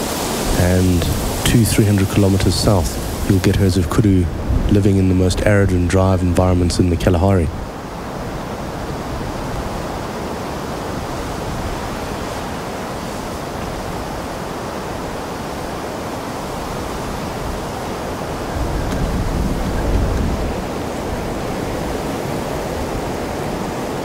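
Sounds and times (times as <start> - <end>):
wind gust buffeting microphone: 0.0 - 24.0
wind noise: 0.0 - 24.0.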